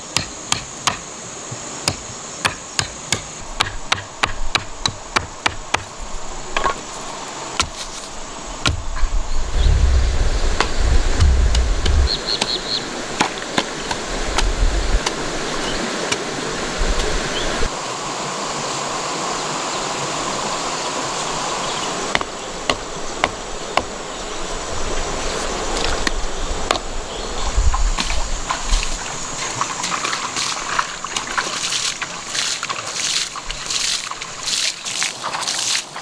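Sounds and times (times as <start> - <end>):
high insect buzz: 0.0 - 35.4
stream rushing over rocks: 0.0 - 36.0.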